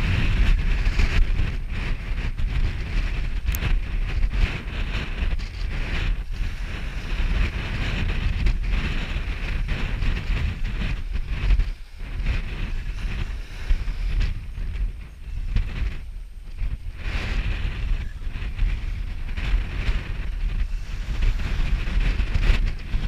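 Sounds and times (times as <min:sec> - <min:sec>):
surf washing: 0:00.0 - 0:23.0
wind buffeting microphone: 0:00.0 - 0:23.0.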